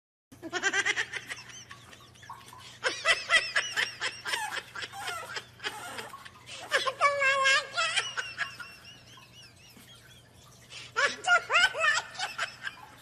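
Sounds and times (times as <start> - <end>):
high-pitched giggling: 0.4 - 13.0.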